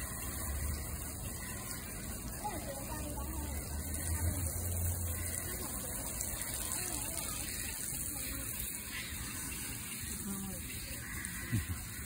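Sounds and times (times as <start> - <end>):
faint chatter of distant people: 0.0 - 12.0
outdoor background noise: 0.0 - 12.0.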